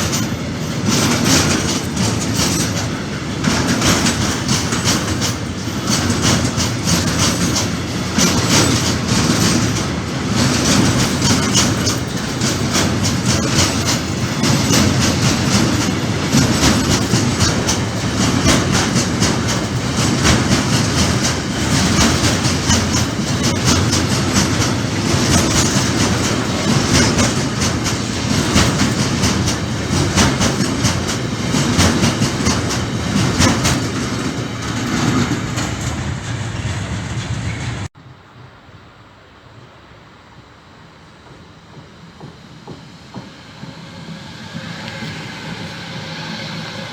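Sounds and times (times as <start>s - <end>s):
wagon wheels clacking on rails: 0.0s - 37.9s.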